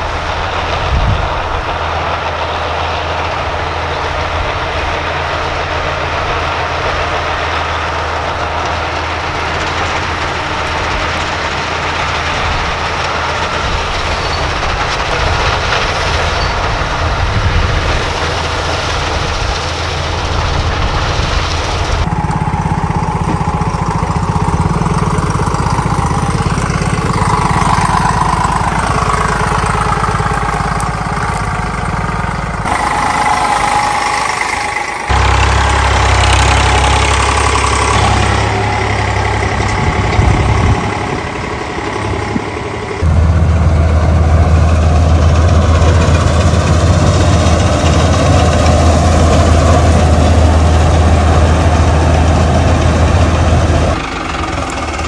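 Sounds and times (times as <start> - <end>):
combine harvester low hum: 0.0 - 55.0
tractor engine running: 0.0 - 55.0.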